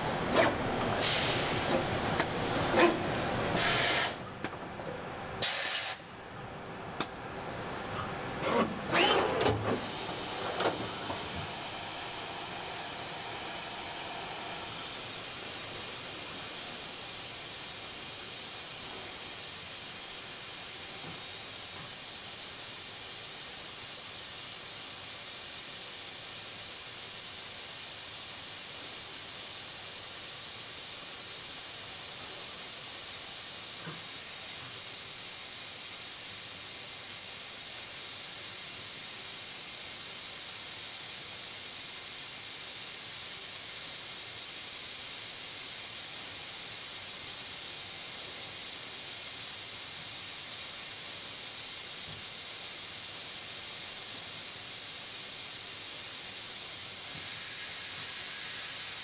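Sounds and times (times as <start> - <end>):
lathe high hiss: 0.3 - 4.3, 5.4 - 6.1, 8.9 - 59.0.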